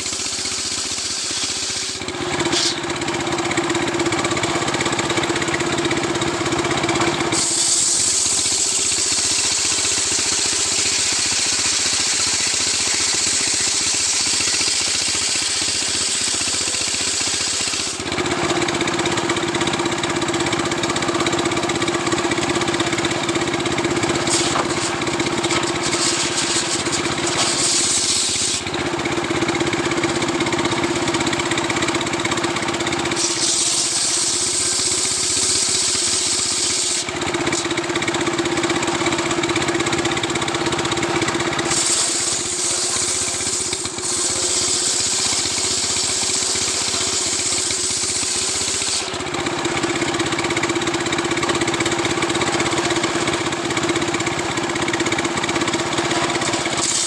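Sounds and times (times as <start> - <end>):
chainsaw cutting wood hiss: 0.0 - 40.0, 40.8 - 57.0
chainsaw running at high revs: 0.0 - 57.0.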